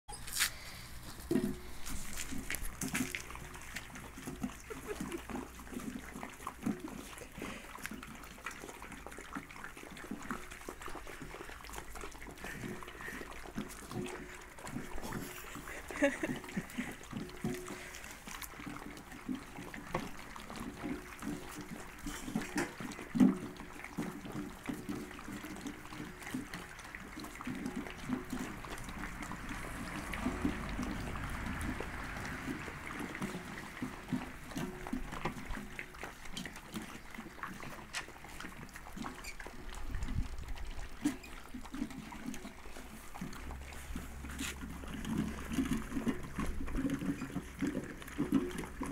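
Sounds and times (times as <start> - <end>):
puppies lapping and slurping food: 0.1 - 48.9.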